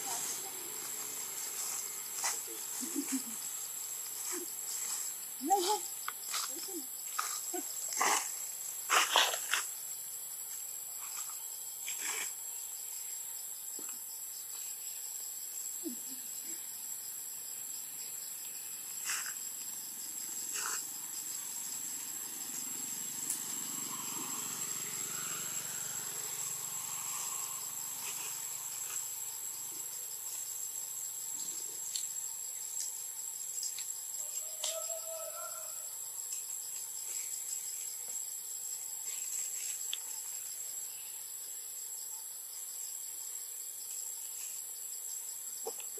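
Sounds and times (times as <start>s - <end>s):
high-pitched insect drone: 0.0s - 45.9s.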